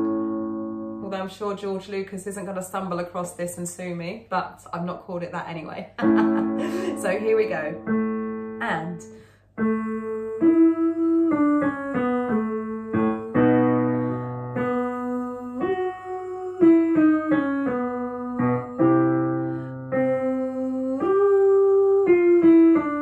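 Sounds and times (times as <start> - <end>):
piano warm-up phrase: 0.0 - 1.6, 6.0 - 23.0.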